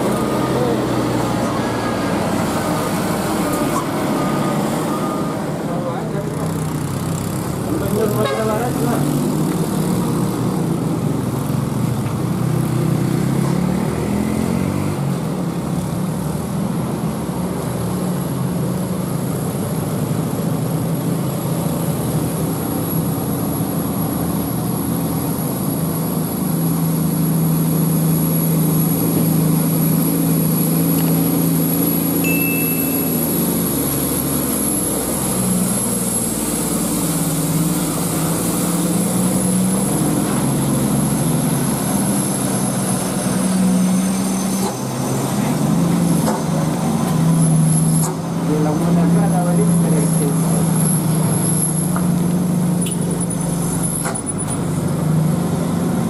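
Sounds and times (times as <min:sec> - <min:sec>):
traffic engines: 0:00.0 - 0:56.0
truck diesel engine climbing: 0:00.0 - 0:56.0.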